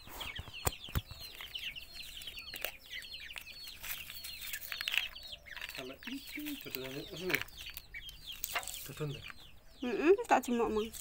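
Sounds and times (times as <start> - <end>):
chickens chirping: 0.0 - 11.0.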